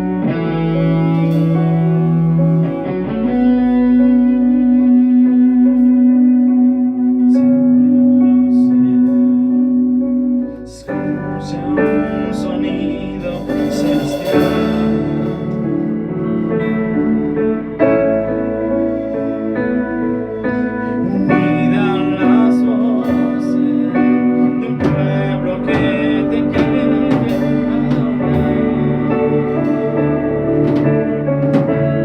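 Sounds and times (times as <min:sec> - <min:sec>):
instrumental guitar music: 0:00.0 - 0:32.0.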